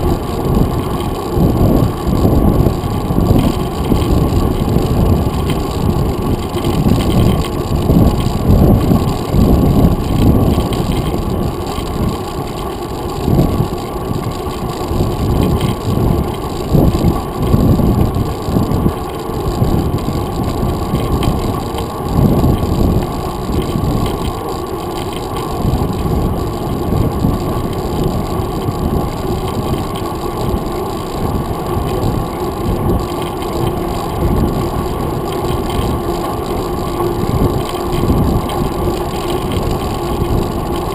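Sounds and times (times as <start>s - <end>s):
tyre and road rumble: 0.0s - 40.9s
wind buffeting microphone: 0.0s - 40.9s.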